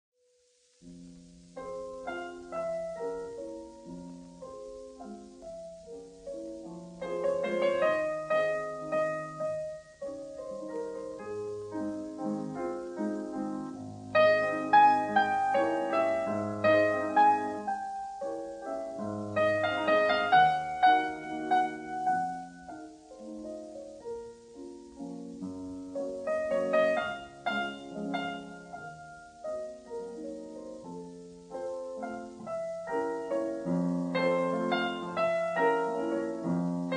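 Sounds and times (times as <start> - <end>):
solo piano piece: 0.2 - 36.9.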